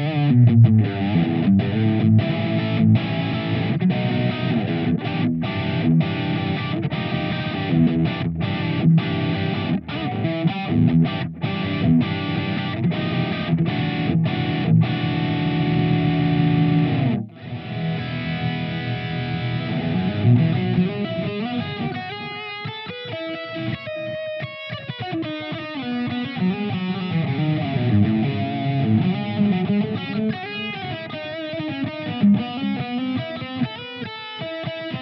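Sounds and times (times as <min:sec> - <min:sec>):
distorted electric guitar chords: 0:00.0 - 0:35.0.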